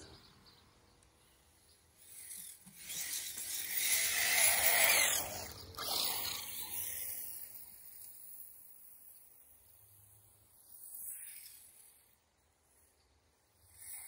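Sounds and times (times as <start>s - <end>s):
toy truck motor and tyres whirring: 1.0s - 14.0s.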